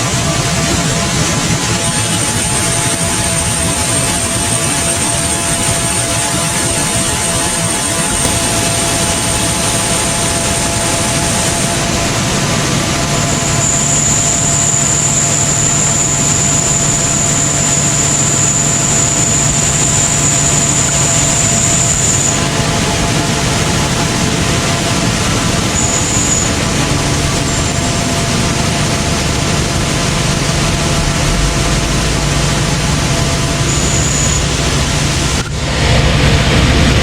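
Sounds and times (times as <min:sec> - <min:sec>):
high whine: 0:00.0 - 0:37.0
low hum: 0:02.4 - 0:37.0
tractor engine under load: 0:04.7 - 0:37.0.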